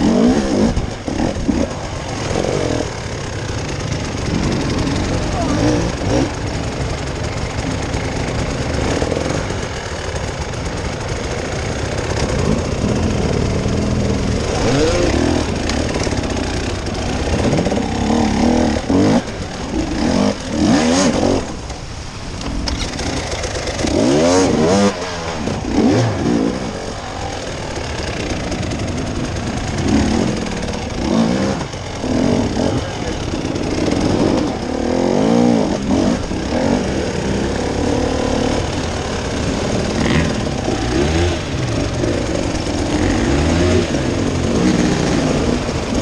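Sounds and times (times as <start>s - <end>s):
off-road vehicle engine revving: 0.0s - 46.0s.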